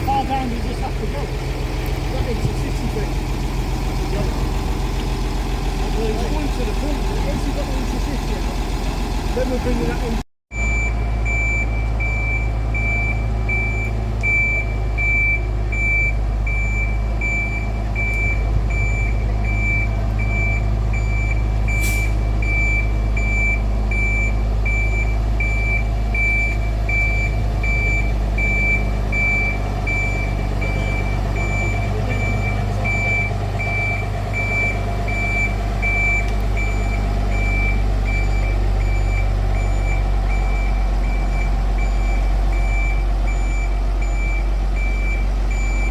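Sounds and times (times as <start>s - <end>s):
engine droning: 0.0s - 45.9s
vehicle reversing alarm beeping: 0.0s - 45.9s.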